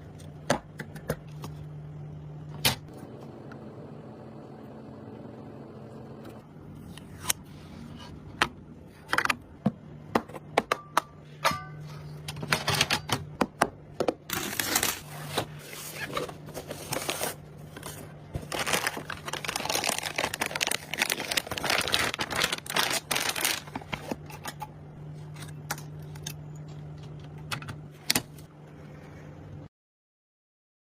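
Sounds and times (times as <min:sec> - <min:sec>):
steady low hum: 0:00.0 - 0:29.7.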